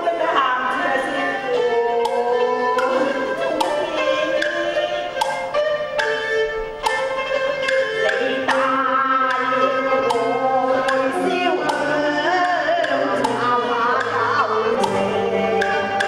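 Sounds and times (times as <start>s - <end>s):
sharp percussion clacks: 0.0s - 16.0s
traditional ensemble melody: 0.0s - 16.0s.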